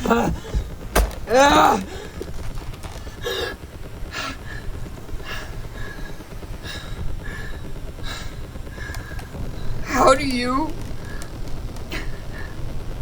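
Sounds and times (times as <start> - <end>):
person breathing hard: 0.0 - 9.9, 10.8 - 13.0
steady low rumble: 0.0 - 13.0.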